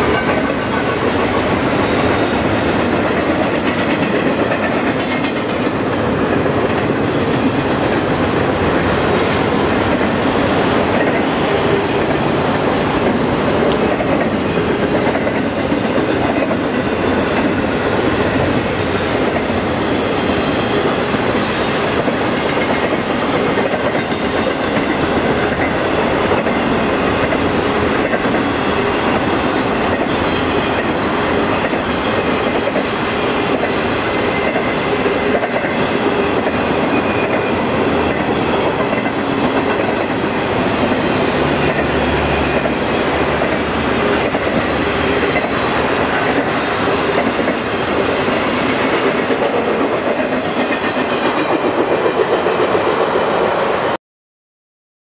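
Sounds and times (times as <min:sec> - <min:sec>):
freight train wheels rolling on rails: 0:00.0 - 0:54.0.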